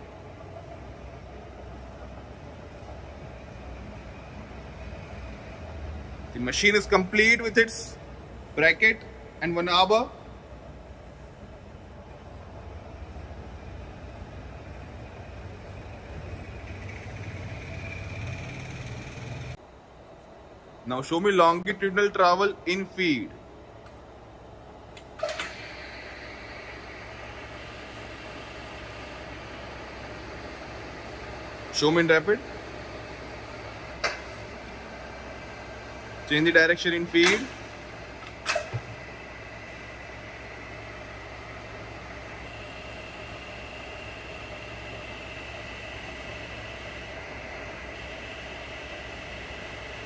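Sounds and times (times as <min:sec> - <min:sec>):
milling machine feed drive hum: 0:00.0 - 0:20.2, 0:20.9 - 0:50.0.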